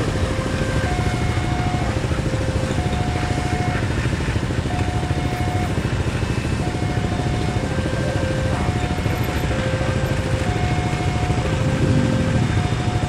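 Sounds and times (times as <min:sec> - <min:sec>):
diesel locomotive engine rumbling: 0:00.0 - 0:13.0
two-tone warning alarm: 0:00.0 - 0:13.0.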